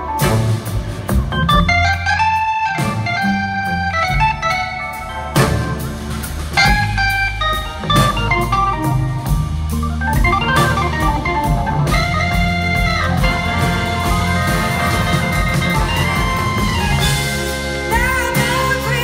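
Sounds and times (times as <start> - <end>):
drum kit: 0.0 - 19.0
electric bass: 0.0 - 19.0
organ: 0.2 - 19.0.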